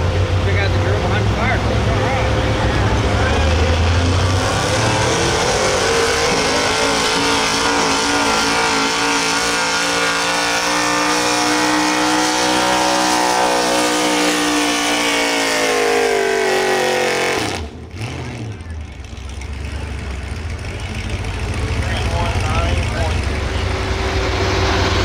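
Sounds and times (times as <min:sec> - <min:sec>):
truck engine at high revs: 0:00.0 - 0:25.0.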